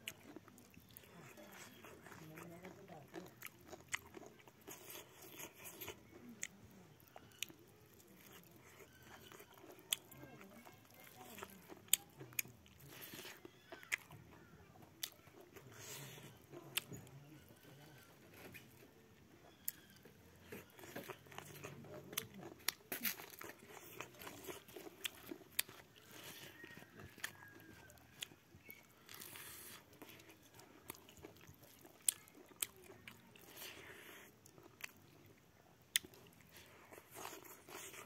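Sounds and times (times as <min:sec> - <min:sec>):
man chewing and smacking: 0:00.0 - 0:38.0.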